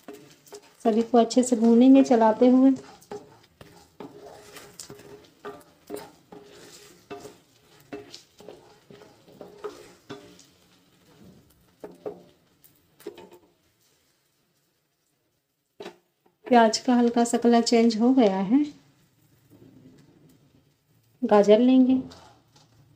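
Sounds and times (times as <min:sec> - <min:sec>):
light sizzle of frying: 0:00.0 - 0:22.9
wooden spatula scraping and stirring: 0:00.0 - 0:22.9.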